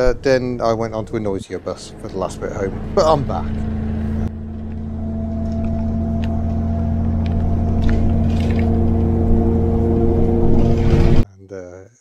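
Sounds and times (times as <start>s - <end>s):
bus engine drone: 0.0s - 11.2s
steady tones: 0.0s - 11.2s.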